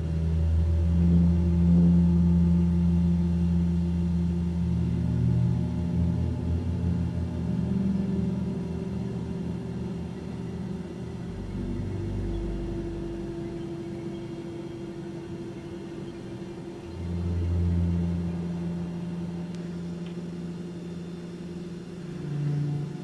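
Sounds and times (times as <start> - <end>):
low droning tones: 0.0 - 23.0.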